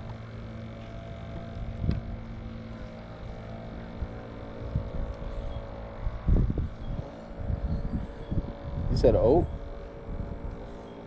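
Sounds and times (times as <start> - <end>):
wind buffeting microphone: 0.0 - 10.8
steady low hum: 0.0 - 11.0.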